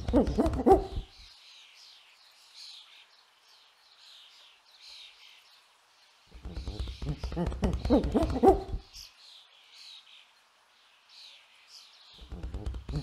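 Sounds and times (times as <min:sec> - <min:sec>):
background hiss: 0:00.0 - 0:13.0
faint bird chirps: 0:00.0 - 0:13.0.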